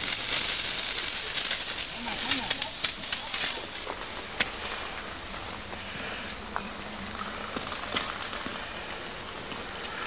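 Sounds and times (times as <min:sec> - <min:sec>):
water spray hissing from hoses: 0:00.0 - 0:10.0.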